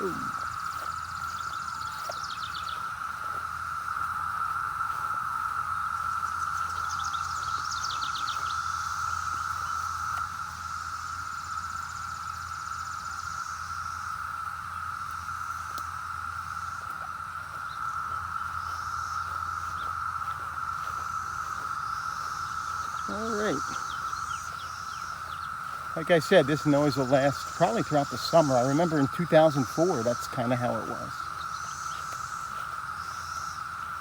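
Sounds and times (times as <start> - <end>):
cicadas droning: 0.0 - 34.0.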